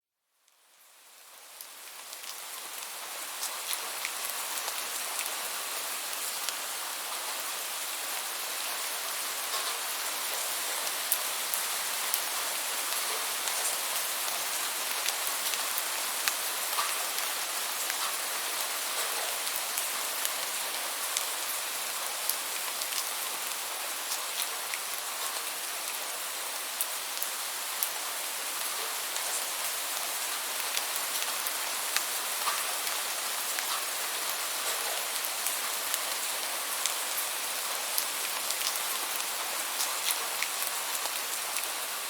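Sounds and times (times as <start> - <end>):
steady rainfall: 0.5 - 42.0.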